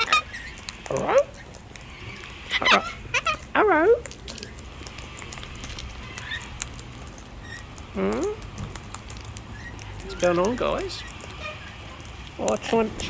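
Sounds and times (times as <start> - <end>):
birds clicking and tapping seed: 0.0 - 13.0.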